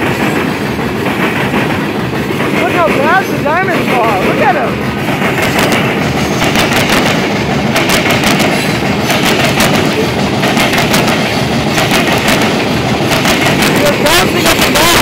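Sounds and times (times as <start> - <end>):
train wheels clattering over crossing: 0.0 - 15.0.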